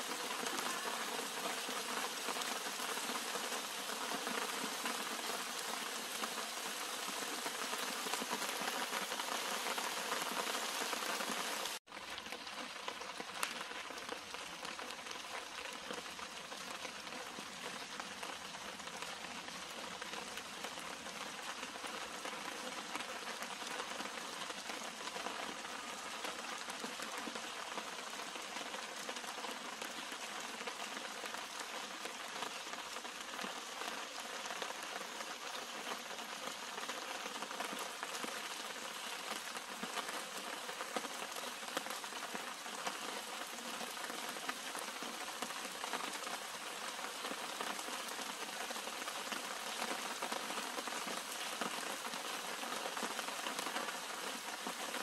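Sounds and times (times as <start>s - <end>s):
rain pattering on leaves: 0.0s - 55.0s.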